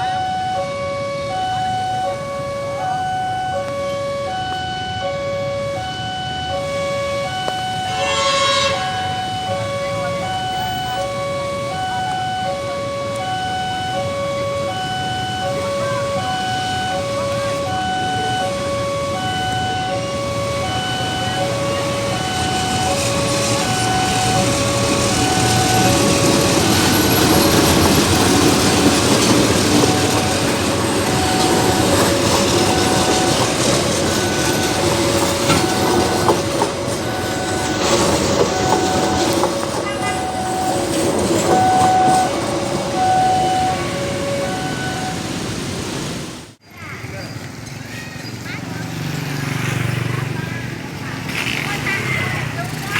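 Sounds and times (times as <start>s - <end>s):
level crossing warning tones: 0.0s - 46.6s
train rolling over crossing: 0.0s - 46.6s, 47.4s - 52.9s.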